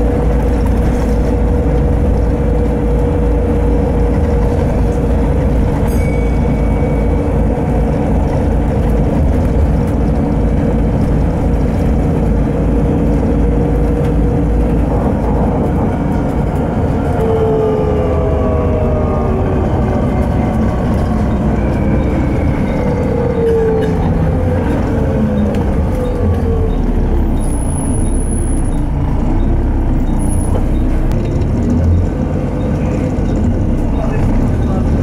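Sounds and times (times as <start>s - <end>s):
bus engine drone: 0.0s - 35.0s.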